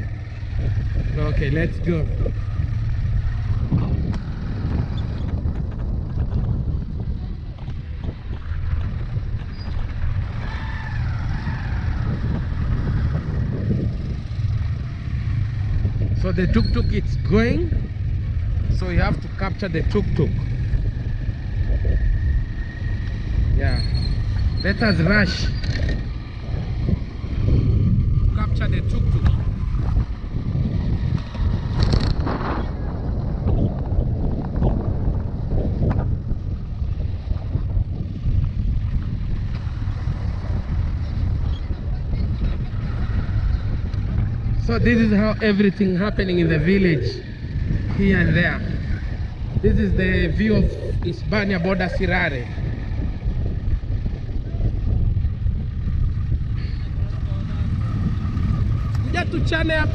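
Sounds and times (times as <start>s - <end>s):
street sounds: 0.0s - 59.9s
vehicle engine rumbling: 0.0s - 59.9s
wind buffeting microphone: 0.0s - 59.9s.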